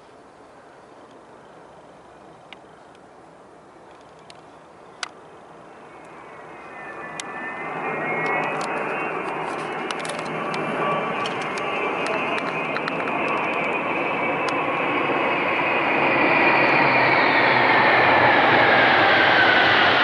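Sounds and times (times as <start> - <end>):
jet engines passing overhead: 0.0 - 20.0
high jet whine: 3.6 - 20.0.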